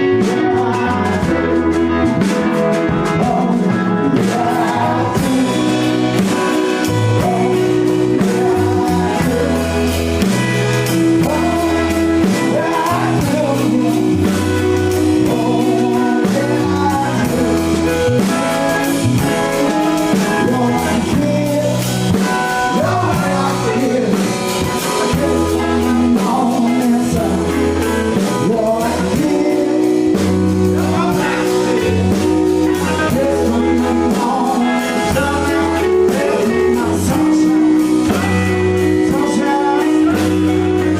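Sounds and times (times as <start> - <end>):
bass line: 0.0 - 40.9
blues-rock band playing: 0.0 - 40.9
electric guitar: 0.0 - 40.9
person singing: 0.0 - 40.9.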